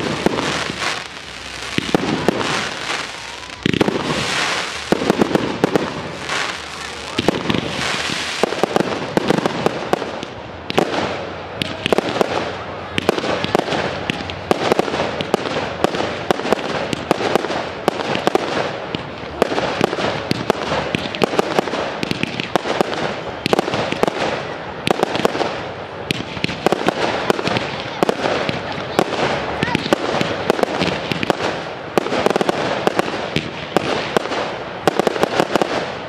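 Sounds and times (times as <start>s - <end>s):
fireworks bangs: 0.0s - 36.0s
fireworks crackling: 0.0s - 36.0s.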